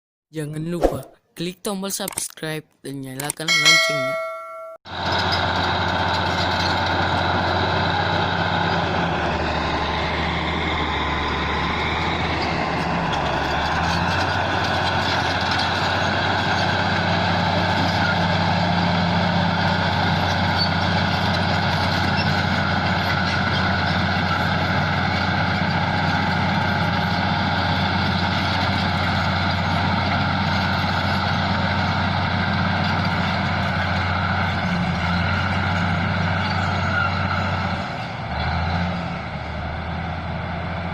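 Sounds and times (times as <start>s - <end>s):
bulldozer diesel engine running: 3.6s - 40.9s.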